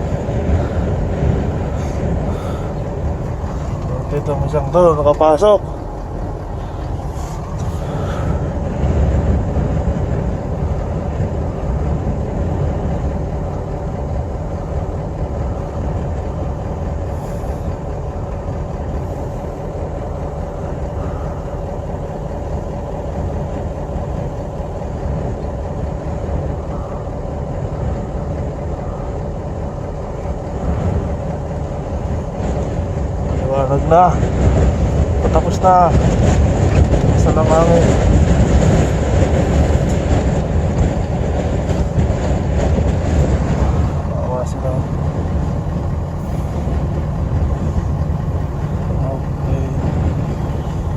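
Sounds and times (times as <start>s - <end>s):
strong wind rumbling: 0.0s - 50.9s
thin steady hum: 0.0s - 50.9s.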